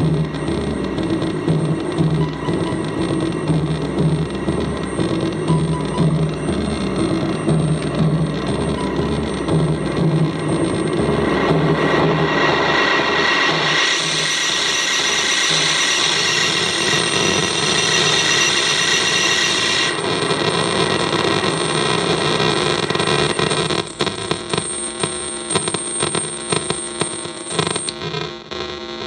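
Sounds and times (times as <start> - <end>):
stuttering electronic clicks: 0.0 - 28.6
glitchy electronic noise: 0.0 - 29.0.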